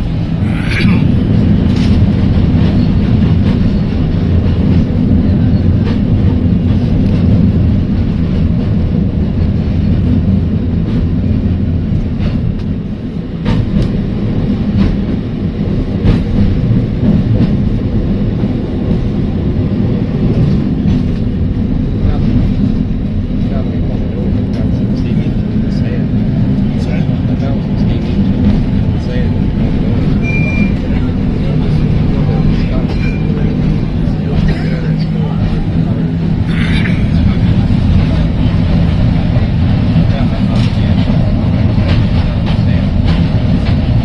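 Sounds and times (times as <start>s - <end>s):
tram wheels rumbling: 0.0s - 44.0s
rail clicks and knocks: 1.3s - 44.0s.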